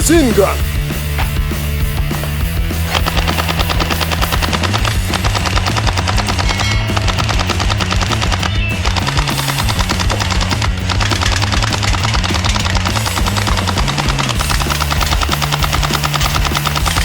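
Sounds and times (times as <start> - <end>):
background music: 0.0 - 17.0
toy gun machine-gun sound effect: 2.9 - 17.0.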